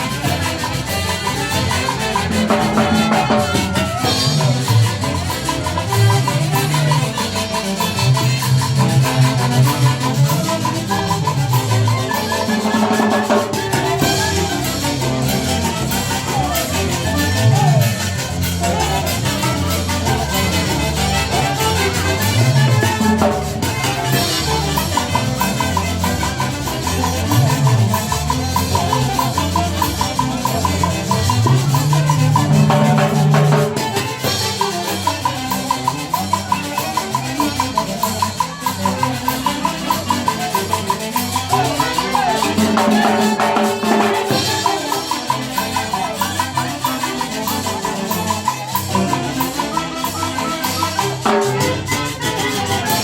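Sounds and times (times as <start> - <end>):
bass line: 0.0 - 53.0
live band music: 0.0 - 53.0
steady percussion beat: 0.0 - 53.0.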